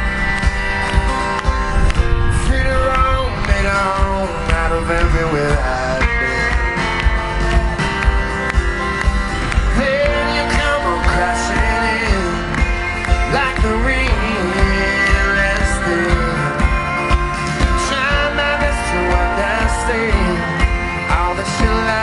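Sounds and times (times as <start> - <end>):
live pop-rock band: 0.0 - 22.0
person singing: 0.0 - 22.0.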